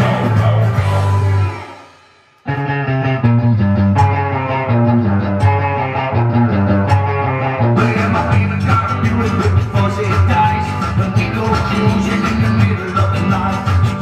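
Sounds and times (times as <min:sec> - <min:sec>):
rock and roll music: 0:00.0 - 0:14.0.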